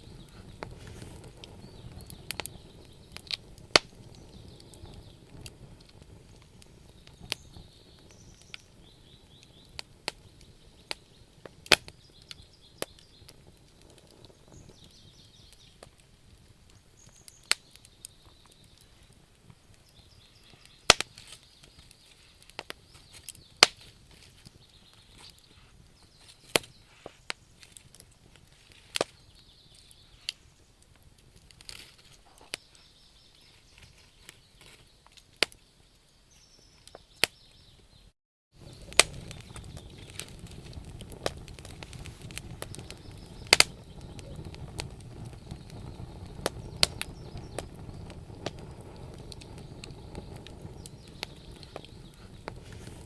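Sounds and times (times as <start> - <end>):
low rushing of flames: 0.0 - 35.6, 38.5 - 53.0
wood fire crackling and popping: 0.0 - 37.8, 38.5 - 53.0.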